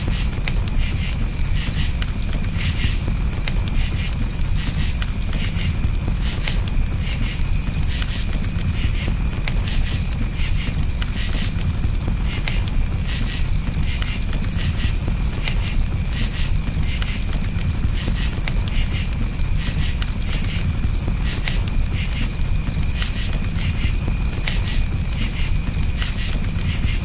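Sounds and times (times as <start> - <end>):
burning wood crackling and popping: 0.0 - 27.0
crickets chirping: 0.0 - 27.0
low rumble of fire: 0.0 - 27.0.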